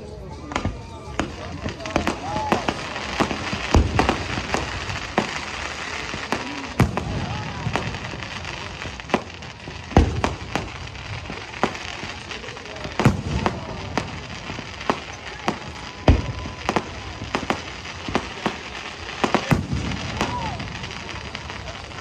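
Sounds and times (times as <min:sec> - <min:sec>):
firework shells bursting: 0:00.5 - 0:22.0
heavy firework booms: 0:00.5 - 0:22.0.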